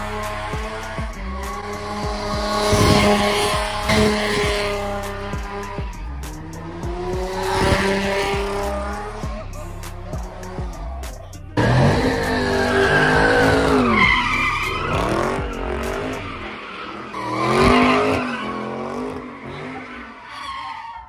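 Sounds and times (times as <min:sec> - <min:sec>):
car engine revving hard: 0:00.0 - 0:20.2
tires squealing: 0:00.0 - 0:21.0.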